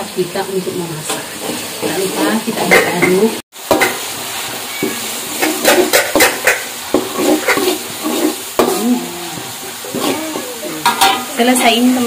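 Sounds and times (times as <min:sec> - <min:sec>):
hot oil sizzling: 0:00.0 - 0:12.0
spatula scraping a pan: 0:01.1 - 0:03.0, 0:03.8 - 0:11.6.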